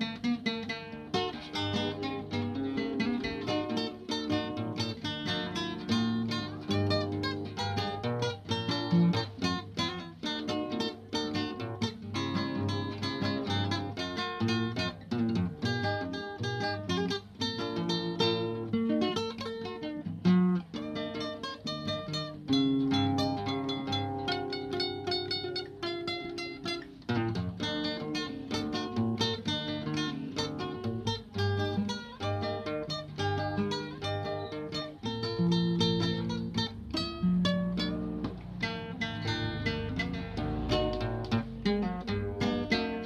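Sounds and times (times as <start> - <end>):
fingerstyle acoustic guitar: 0.0 - 43.0.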